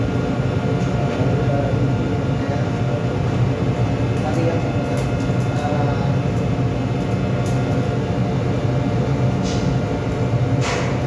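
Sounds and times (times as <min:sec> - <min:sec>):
ship machinery drone: 0:00.0 - 0:11.0.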